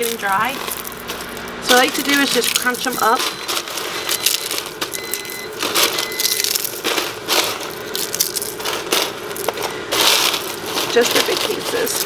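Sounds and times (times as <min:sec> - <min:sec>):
eggshells crunching by hand: 0:00.0 - 0:12.0.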